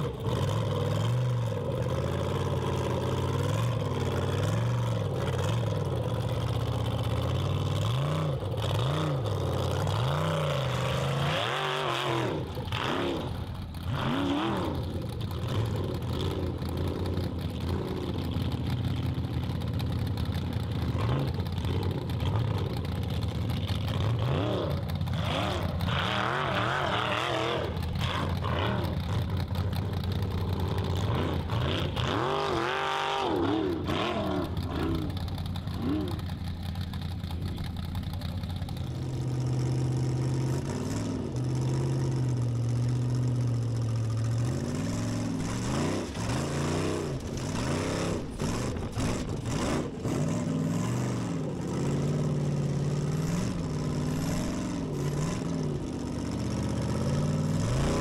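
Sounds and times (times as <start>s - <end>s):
buggy engine revving: 0.0s - 58.0s.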